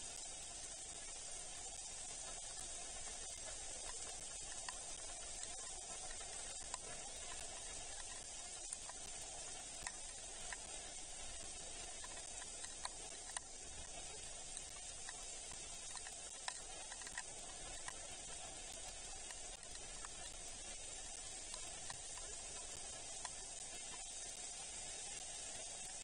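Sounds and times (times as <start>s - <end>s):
steady rain hiss: 0.0s - 26.0s
raindrops ticking: 0.1s - 26.0s.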